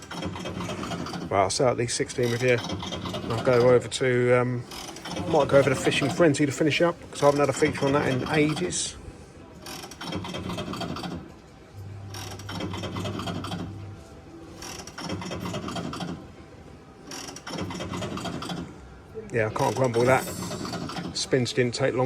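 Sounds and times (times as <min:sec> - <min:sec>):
slot machine reel ticking: 0:00.0 - 0:09.0, 0:09.6 - 0:16.4, 0:17.0 - 0:18.8, 0:19.5 - 0:22.0.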